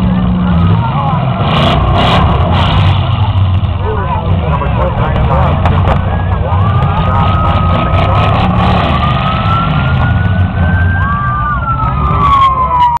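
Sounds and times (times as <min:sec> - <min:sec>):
car engines rumbling: 0:00.0 - 0:13.0.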